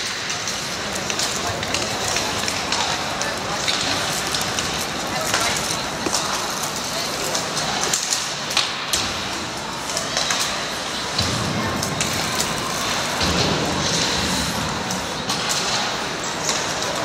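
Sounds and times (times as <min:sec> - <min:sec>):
hockey sticks and puck clacking: 0:00.0 - 0:17.0
skates scraping ice: 0:00.0 - 0:17.0.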